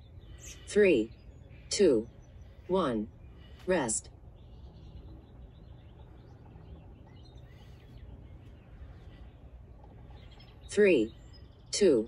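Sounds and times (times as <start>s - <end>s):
faint birds chirping: 0.0s - 12.0s
low outdoor background rumble: 0.0s - 12.0s.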